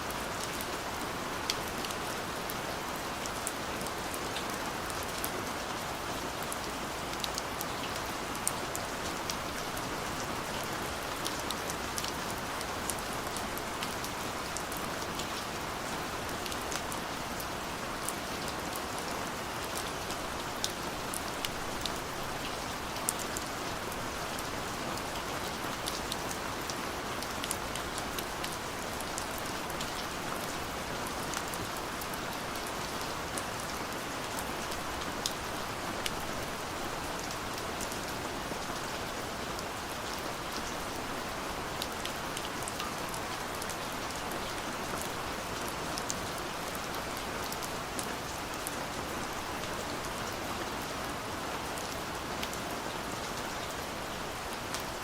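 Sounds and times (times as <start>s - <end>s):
light rain ticking on a surface: 0.0s - 55.0s.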